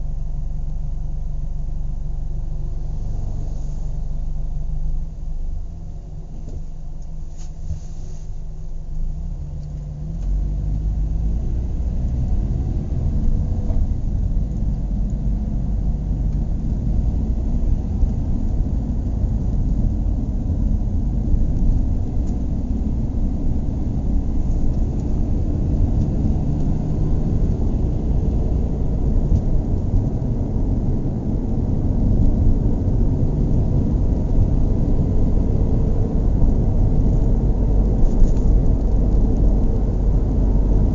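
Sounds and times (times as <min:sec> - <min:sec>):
car engine rumbling: 0:00.0 - 0:40.9.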